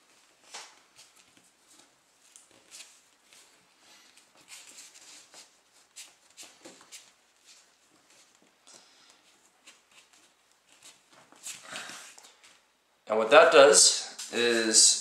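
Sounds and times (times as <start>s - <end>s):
cord rustling and scraping on rope: 0.0s - 12.7s.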